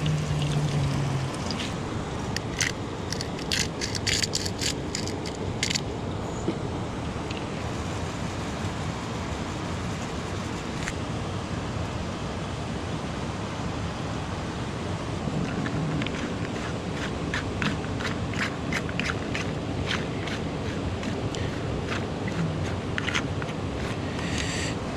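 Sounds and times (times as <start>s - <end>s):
steady rushing noise: 0.0s - 24.9s.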